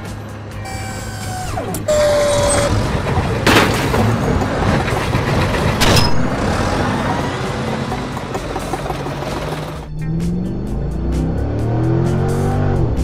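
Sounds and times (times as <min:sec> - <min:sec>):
machinery engine rumble: 0:00.0 - 0:13.0.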